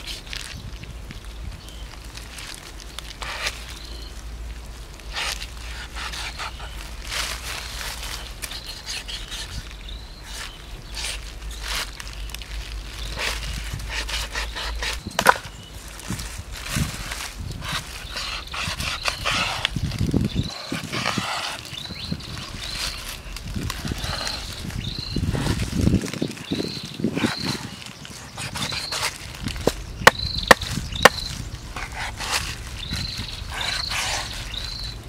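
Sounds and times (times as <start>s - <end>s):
plastic crinkling: 0.0s - 35.0s.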